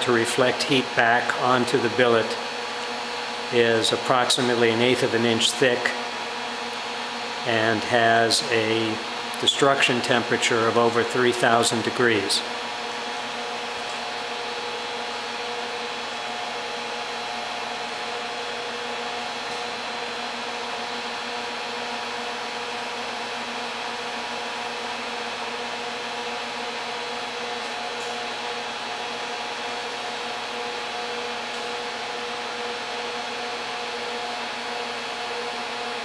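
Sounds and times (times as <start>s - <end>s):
induction heater hiss and hum: 0.0s - 36.0s.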